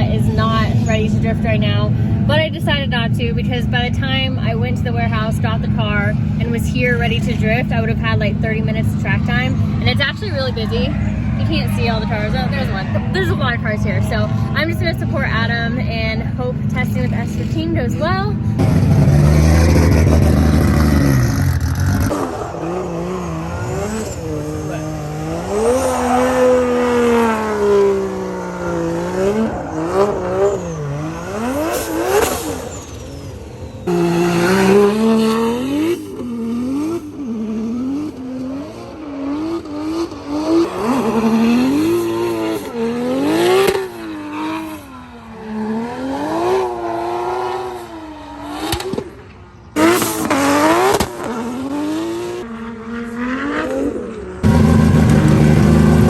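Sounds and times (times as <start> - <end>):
car engine revving hard: 0.0 - 49.1, 49.8 - 56.0.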